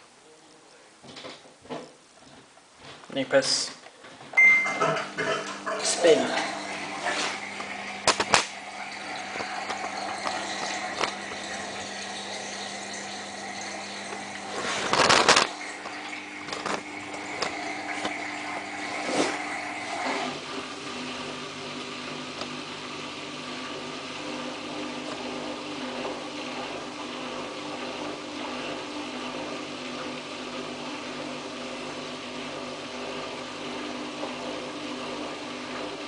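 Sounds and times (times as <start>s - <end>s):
washing machine spinning hum: 1.0s - 36.0s.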